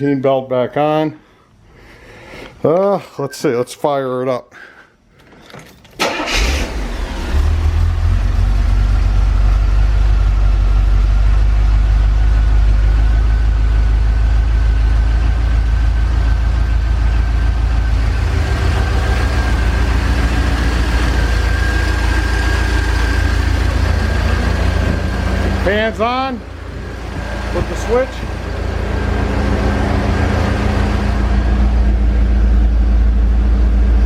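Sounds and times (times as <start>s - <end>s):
car engine idling: 6.0s - 34.0s.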